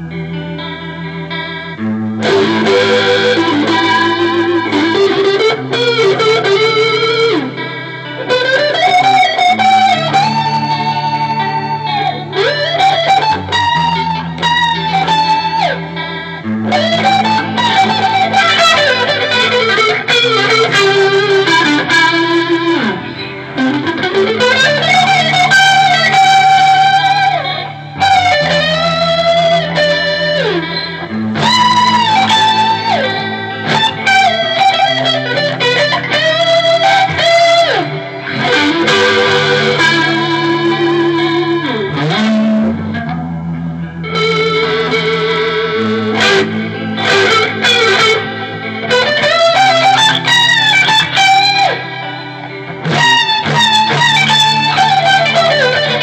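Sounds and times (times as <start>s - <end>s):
electric guitar lead lines: 0.0s - 56.0s.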